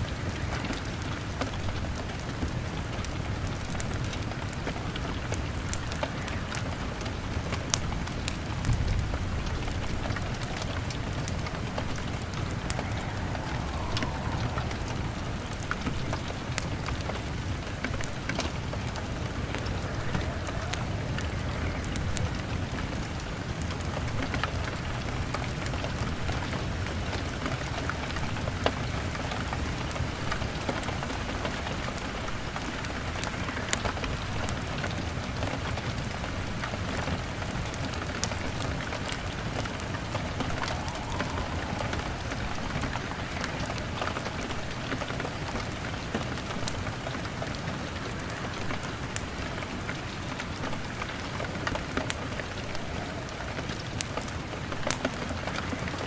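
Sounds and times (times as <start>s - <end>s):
fire crackling: 0.0s - 56.0s
rain on window glass: 0.0s - 56.0s.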